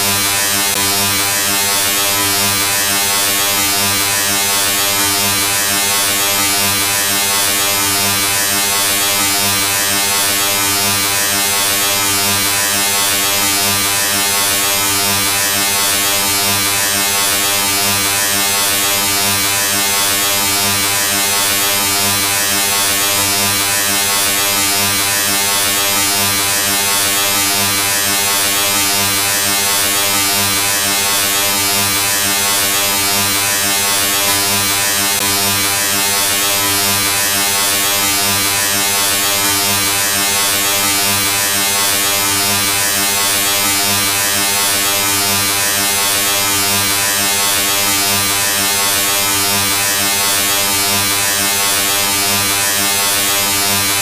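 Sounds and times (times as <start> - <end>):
electric buzz: 0.0 - 54.0.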